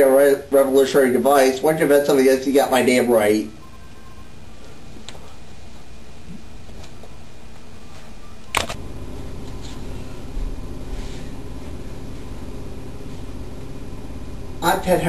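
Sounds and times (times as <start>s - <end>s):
camcorder hiss and hum: 0.0s - 15.0s
room noise and movement: 0.0s - 15.0s.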